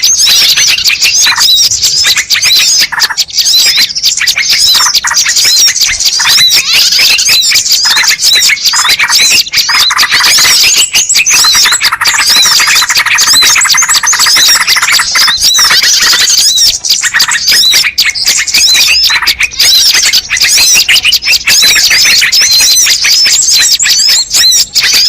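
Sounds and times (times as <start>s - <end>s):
many small birds chirping: 0.0s - 25.0s.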